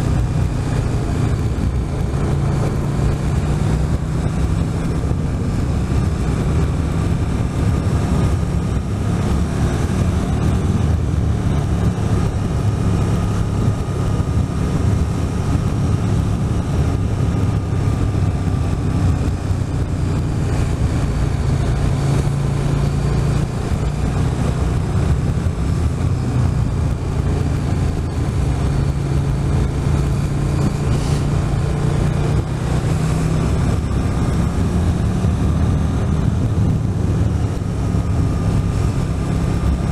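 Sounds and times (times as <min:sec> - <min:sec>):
motorcycle engine drone: 0:00.0 - 0:39.9
rush of noise: 0:00.0 - 0:39.9.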